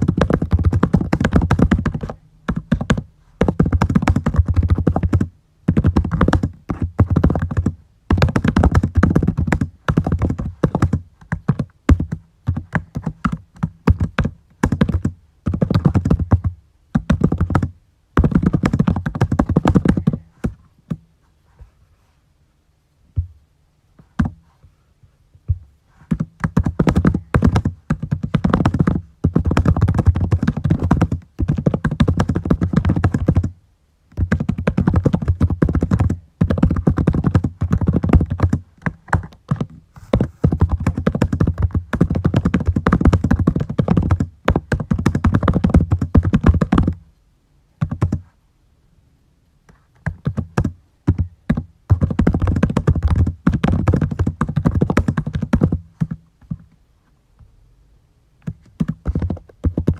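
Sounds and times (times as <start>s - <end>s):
typing on a keyboard: 0.0s - 20.2s, 26.1s - 33.5s, 34.1s - 47.0s, 47.8s - 48.2s, 50.0s - 56.6s, 58.6s - 59.9s.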